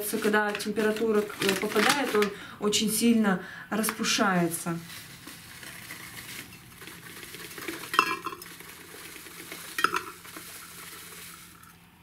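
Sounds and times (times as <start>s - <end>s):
rustle of tea leaves: 0.0s - 2.3s, 4.2s - 11.7s.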